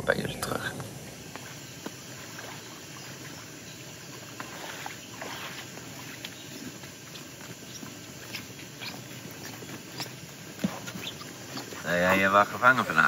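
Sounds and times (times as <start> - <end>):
footsteps through long grass: 1.2 - 12.1.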